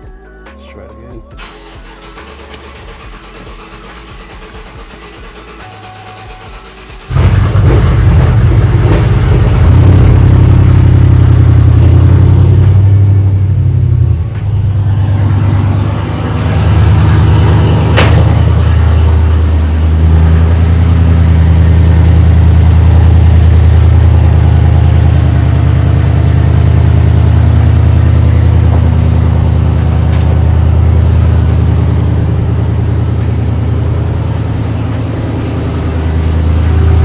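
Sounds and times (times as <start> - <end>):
car engine idling: 1.4 - 37.0.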